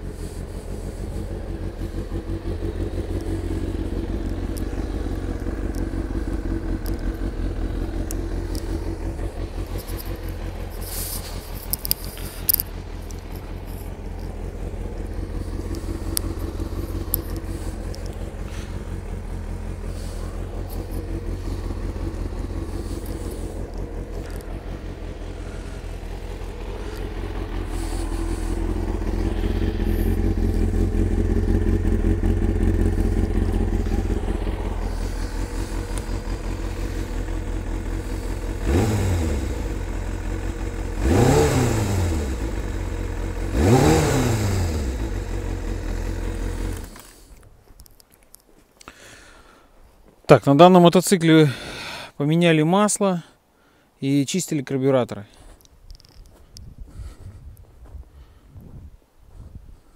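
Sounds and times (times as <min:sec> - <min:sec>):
motorcycle engine idling and revving: 0:00.0 - 0:50.1, 0:55.2 - 0:59.9.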